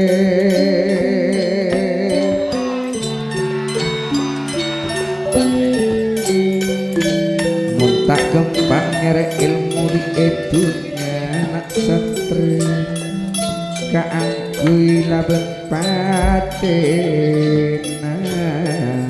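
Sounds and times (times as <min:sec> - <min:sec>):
man singing into a microphone: 0:00.0 - 0:04.6, 0:05.3 - 0:19.0
metallophones ringing: 0:00.0 - 0:19.0.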